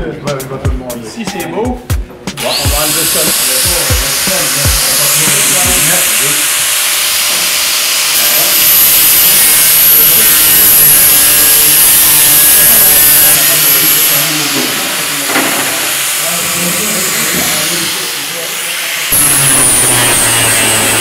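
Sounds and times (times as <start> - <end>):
angle grinder grinding steel: 2.4 - 21.0.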